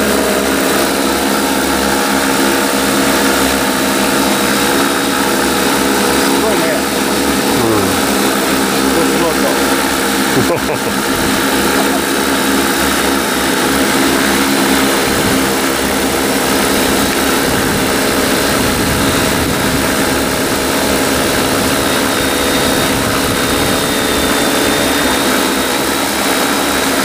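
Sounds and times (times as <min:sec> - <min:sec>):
drone rotors humming: 0:00.0 - 0:27.0.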